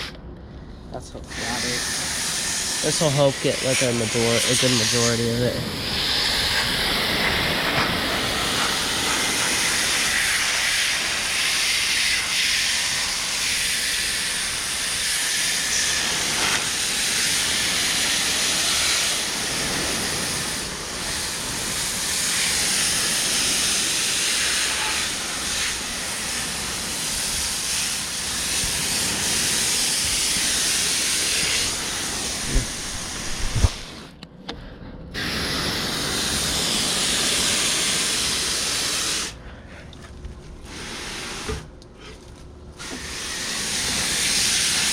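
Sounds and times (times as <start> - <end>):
hose spraying water on metal coil: 1.3 - 34.1, 35.2 - 39.4, 40.6 - 41.7, 42.8 - 44.9.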